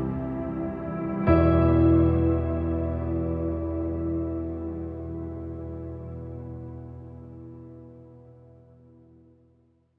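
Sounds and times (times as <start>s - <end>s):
sustained ambient chord: 0.0s - 9.6s.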